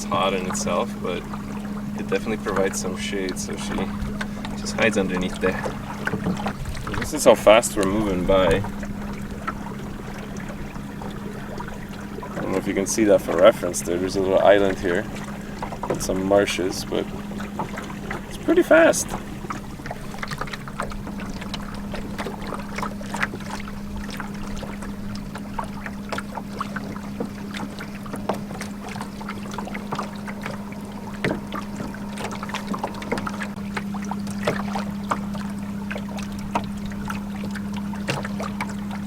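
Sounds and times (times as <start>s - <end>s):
electric boat motor humming: 0.0s - 39.0s
water slapping against hull: 0.0s - 39.0s.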